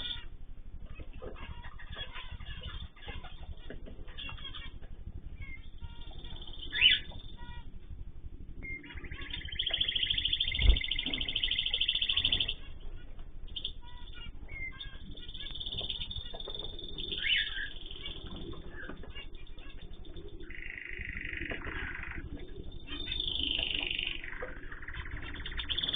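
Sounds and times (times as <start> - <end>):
cage birds chirping: 0.0 - 25.9
high bird trill: 0.0 - 25.9.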